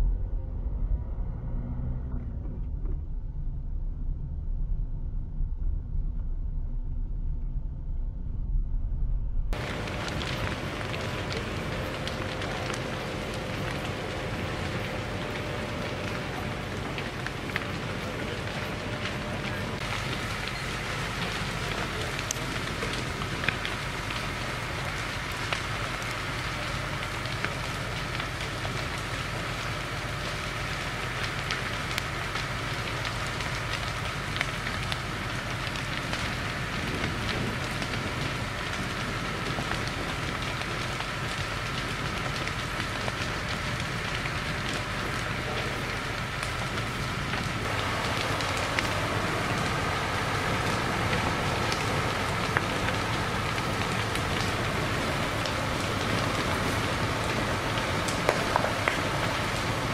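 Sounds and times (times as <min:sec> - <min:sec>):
fire engine motor humming: 0:00.0 - 0:59.9
fire crackling and popping: 0:08.9 - 0:59.9.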